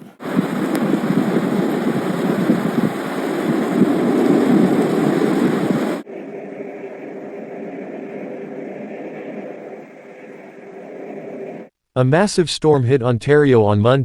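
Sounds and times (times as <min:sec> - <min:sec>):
steady hum: 0:00.0 - 0:11.7
wind buffeting microphone: 0:00.0 - 0:11.7.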